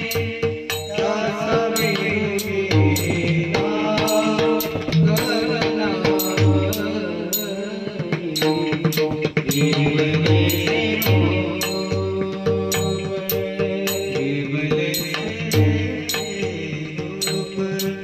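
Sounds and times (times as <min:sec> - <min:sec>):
devotional singing: 0:00.0 - 0:18.0
drum strokes: 0:00.0 - 0:18.0
small hand cymbals: 0:00.0 - 0:18.0.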